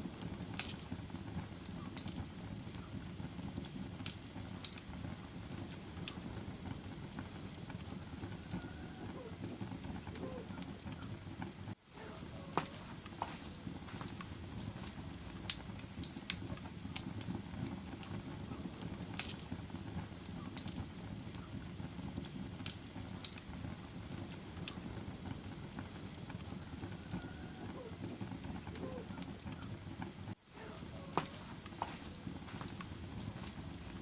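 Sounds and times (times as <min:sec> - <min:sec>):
fire crackles and pops: 0:00.0 - 0:34.0
wood fire low rumble: 0:00.0 - 0:34.0.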